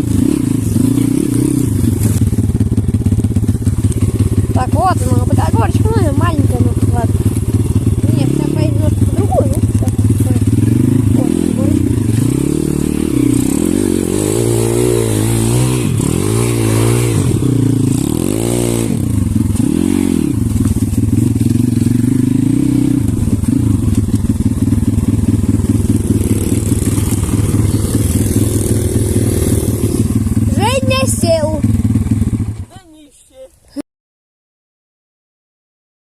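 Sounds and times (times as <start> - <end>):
pit bike engine revving: 0.0 - 32.7.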